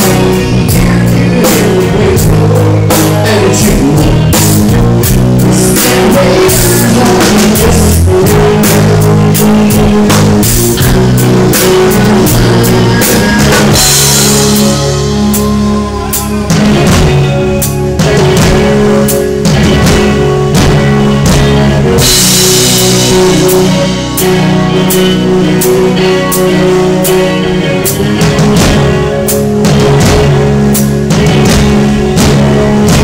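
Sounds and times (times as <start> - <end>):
electric guitar and bass: 0.0 - 33.0.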